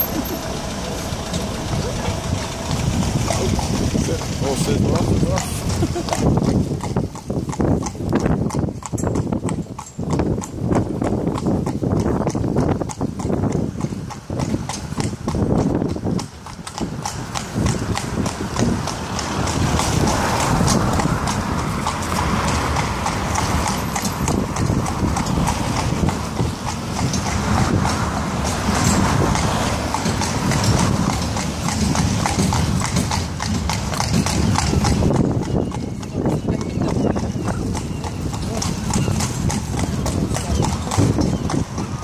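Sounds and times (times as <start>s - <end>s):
horse hooves clip-clopping on road: 0.0s - 42.0s
rushing wheels and traffic noise: 0.0s - 42.0s.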